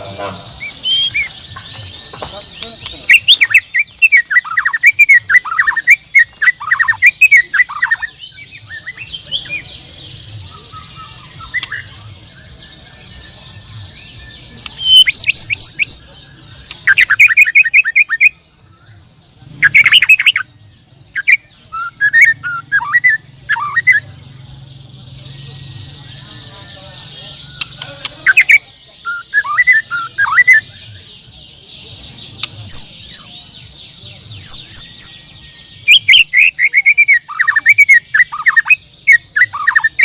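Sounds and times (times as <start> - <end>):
birds singing whistles and chirps: 0.0 - 40.0.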